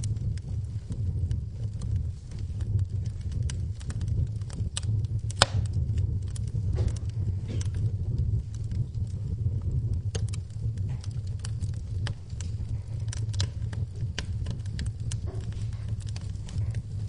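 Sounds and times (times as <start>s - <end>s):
fire rumbling: 0.0s - 17.0s
logs crackling and popping: 0.0s - 17.0s.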